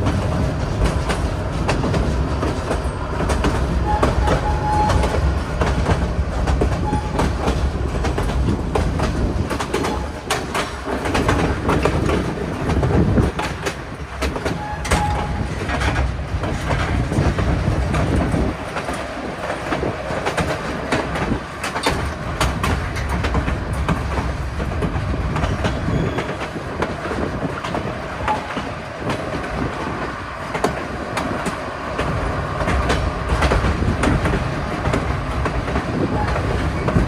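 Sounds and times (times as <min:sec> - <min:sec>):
rail clicks and clacks: 0:00.0 - 0:37.0
wheels rumbling on rails: 0:00.0 - 0:37.0.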